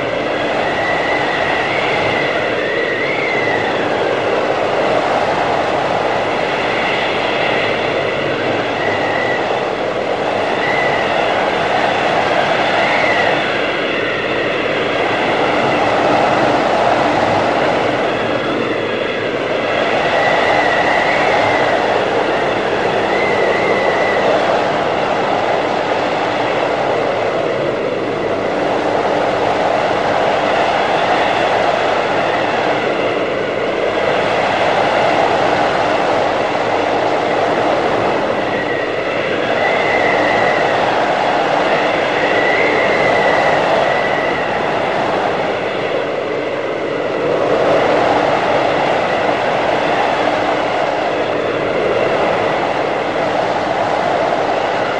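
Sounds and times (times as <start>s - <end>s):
blizzard wind roaring in gusts: 0.0s - 54.9s
high wind whistle: 0.0s - 54.9s.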